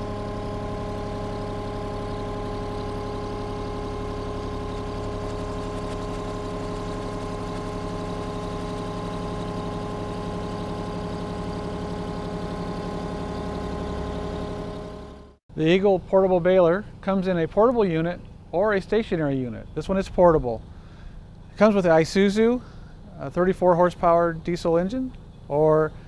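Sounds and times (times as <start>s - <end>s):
machine power unit droning: 0.0s - 26.0s.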